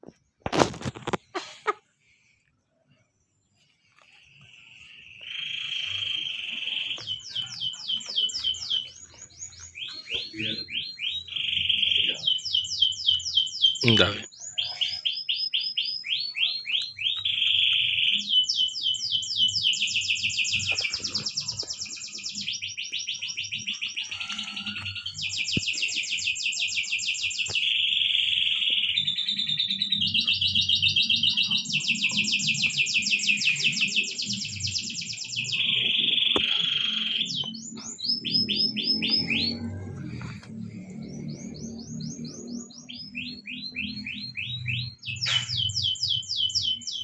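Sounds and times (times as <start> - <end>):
songbird trilling and chirping: 3.0 - 47.0.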